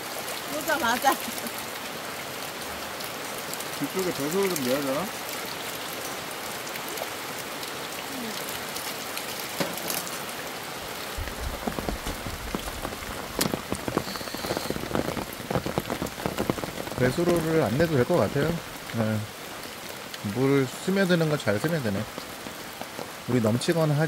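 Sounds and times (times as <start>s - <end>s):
rain on a tarp: 0.0s - 24.0s.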